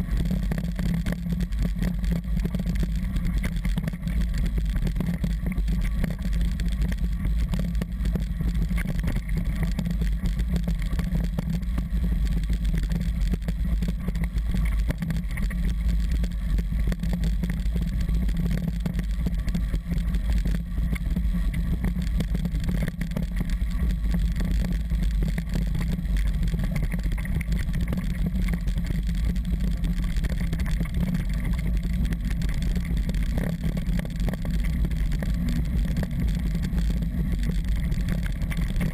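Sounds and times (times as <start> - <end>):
bike tyres rumbling on gravel: 0.0 - 38.9.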